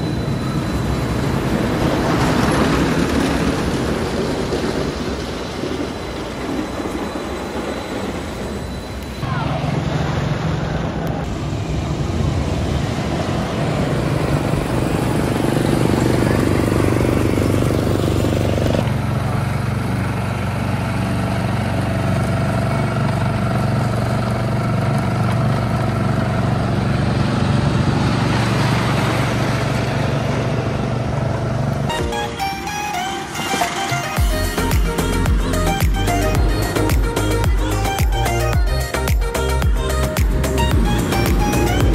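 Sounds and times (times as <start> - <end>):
roller coaster rumbling on track: 0.0 - 38.5, 39.5 - 41.9.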